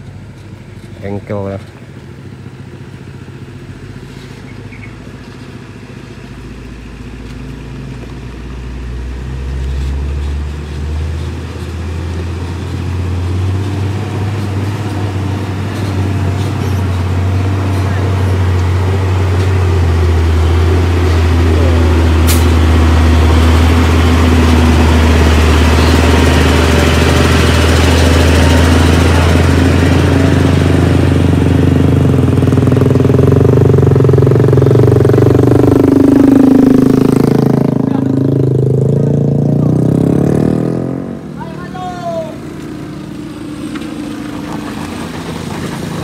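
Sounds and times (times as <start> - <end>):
truck diesel engine under load: 0.0 - 46.0.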